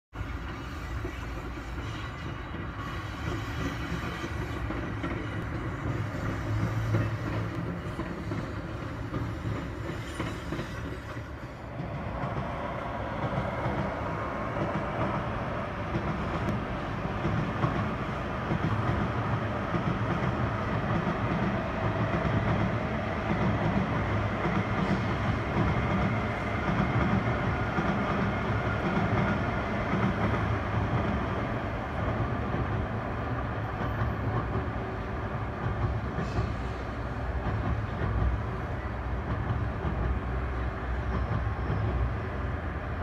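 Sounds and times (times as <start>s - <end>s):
electric commuter train rolling by: 0.1s - 43.0s
high-speed trains rushing past: 0.2s - 43.0s.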